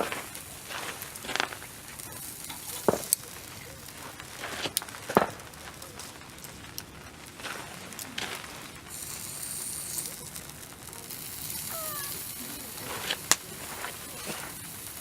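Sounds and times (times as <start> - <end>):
campfire crackling: 0.0 - 15.0
sharp pops from fire: 0.0 - 15.0.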